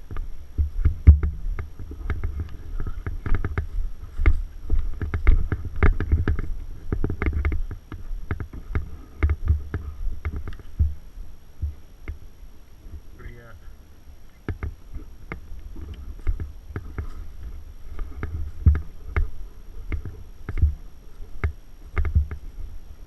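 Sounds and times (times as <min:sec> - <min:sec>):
footsteps: 0:00.0 - 0:23.0
gear bumping microphone: 0:00.0 - 0:23.0.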